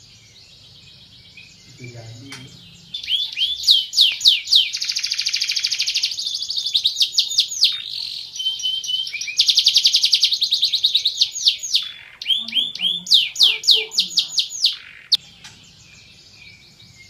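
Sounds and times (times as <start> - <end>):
canary singing with trills: 0.0 - 17.0.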